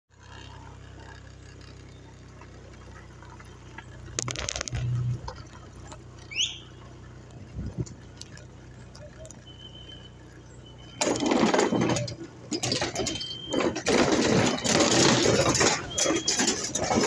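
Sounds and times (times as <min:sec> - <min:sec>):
motorcycle engine running: 0:00.1 - 0:17.0
motorcycle rattling over bumps: 0:00.1 - 0:17.0.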